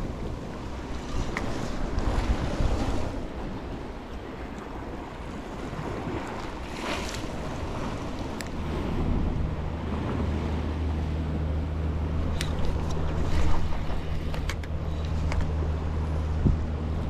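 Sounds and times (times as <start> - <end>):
surf washing around rocks: 0.0 - 17.0
wind buffeting microphone: 0.0 - 17.0.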